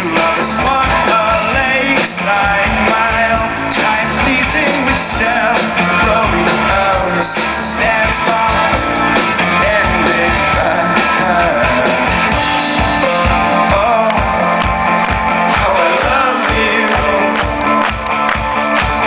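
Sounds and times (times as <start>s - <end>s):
person singing: 0.0s - 14.8s, 15.4s - 17.8s
bass guitar: 0.0s - 19.0s
electric guitars: 0.0s - 19.0s.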